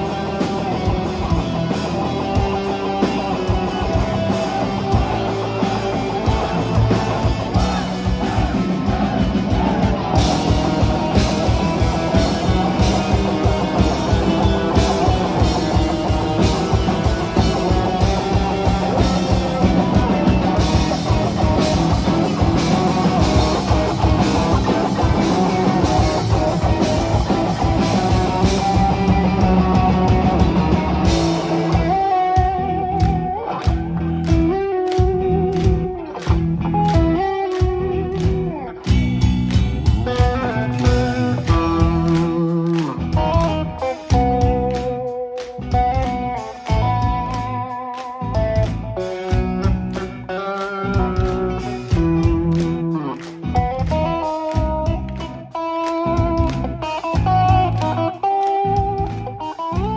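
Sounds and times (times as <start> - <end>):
busy drumming: 0.0 - 59.9
live rock band playing: 0.0 - 59.9.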